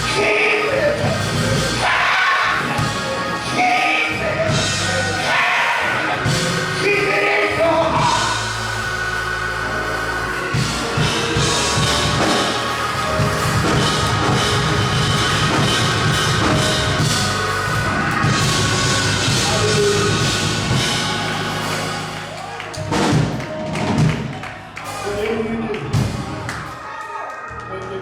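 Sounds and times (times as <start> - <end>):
band playing up-tempo music: 0.0 - 26.8
drum kit: 0.0 - 26.8
keyboard chords: 0.0 - 26.9.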